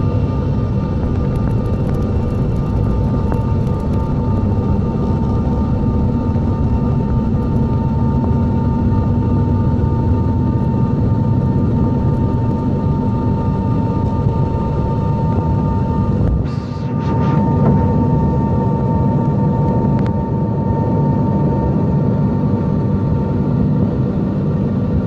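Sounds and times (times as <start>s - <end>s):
jet engines rumbling with high tone: 0.0s - 25.0s.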